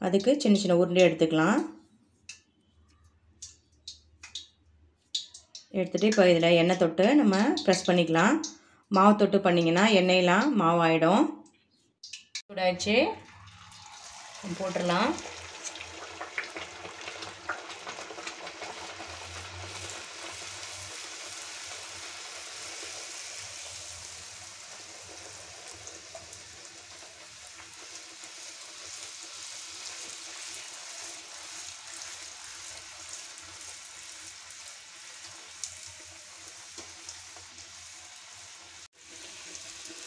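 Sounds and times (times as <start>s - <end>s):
oil sizzling and bubbling: 0.0s - 8.8s, 11.8s - 40.0s.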